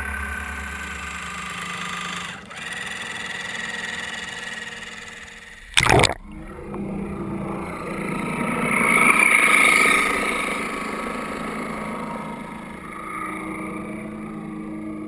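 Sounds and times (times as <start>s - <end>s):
model boat motor whine underwater: 0.0s - 15.0s.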